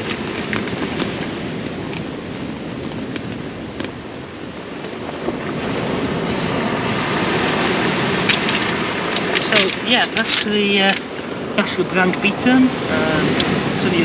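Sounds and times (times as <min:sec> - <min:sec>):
surf washing up shingle beach: 0:00.0 - 0:14.0
wind on microphone: 0:00.0 - 0:14.0.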